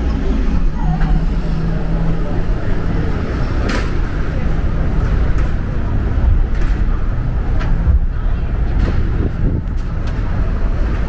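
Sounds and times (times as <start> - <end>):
city traffic rumble: 0.0 - 11.0
wind buffeting microphone: 0.0 - 11.0.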